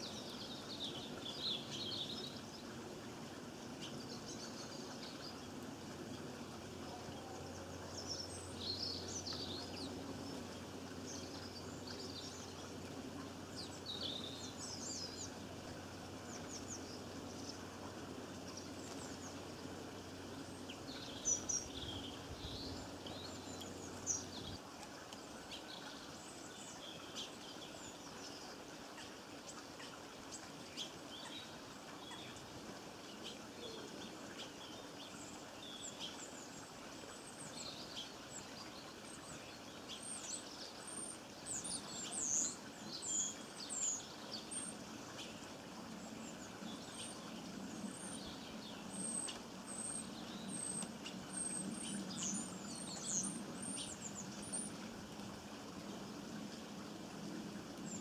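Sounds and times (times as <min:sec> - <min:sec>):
small birds chirping: 0:00.0 - 0:58.0
steady background hiss: 0:00.0 - 0:58.0.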